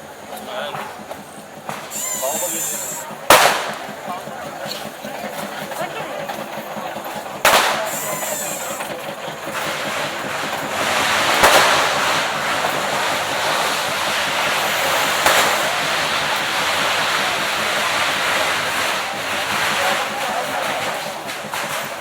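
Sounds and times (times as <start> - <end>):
continuous hissing rush: 0.0 - 22.0
firework bangs: 0.6 - 6.4, 7.1 - 22.0.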